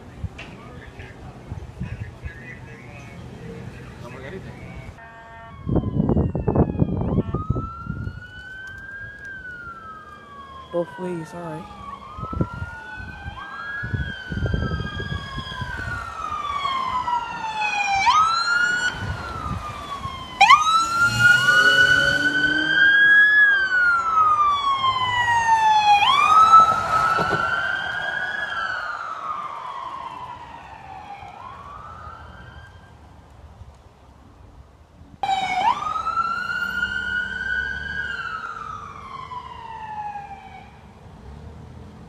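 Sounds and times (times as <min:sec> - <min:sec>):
police sirens wailing: 0:00.6 - 0:33.2, 0:35.2 - 0:41.0.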